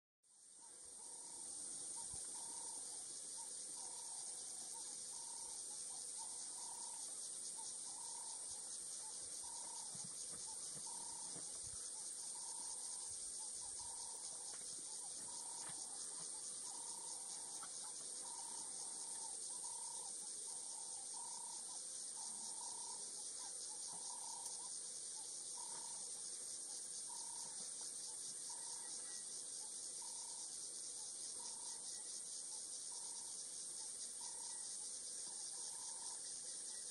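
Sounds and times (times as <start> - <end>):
high-pitched insect chorus: 0.3 - 36.9.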